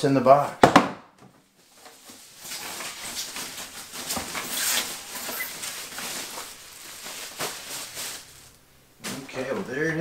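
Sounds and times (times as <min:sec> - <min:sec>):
plastic bag rustling and crinkling: 0:01.6 - 0:10.0.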